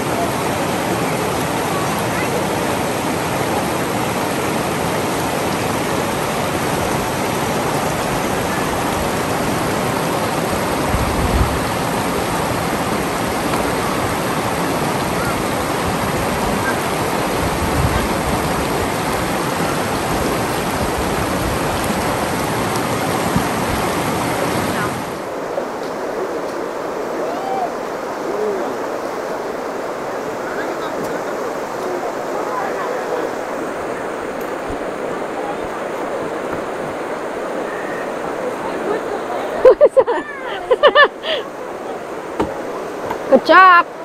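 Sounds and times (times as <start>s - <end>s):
river water rushing over rocks: 0.0s - 44.0s.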